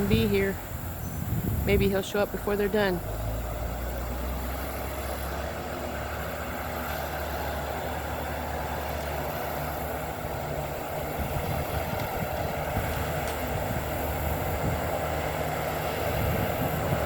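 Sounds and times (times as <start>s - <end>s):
diesel machinery engine rumble: 0.0s - 17.0s.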